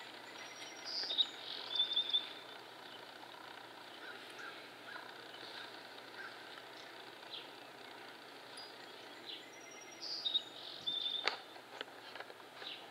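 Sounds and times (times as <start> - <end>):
outdoor background noise: 0.0 - 12.9
bird chirps: 0.2 - 3.1, 3.9 - 11.5
high bird chirping: 0.2 - 3.1, 3.9 - 11.4.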